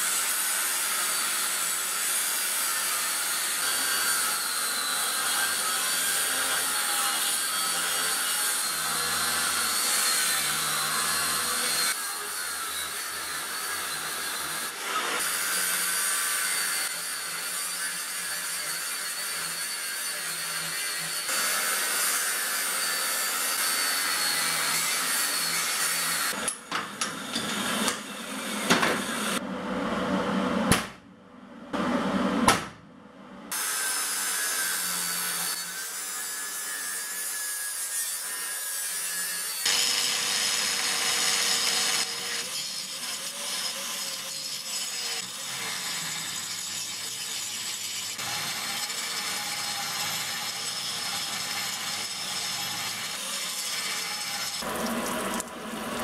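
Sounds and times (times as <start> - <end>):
power tools cutting steel: 0.0 - 29.4, 33.5 - 56.0.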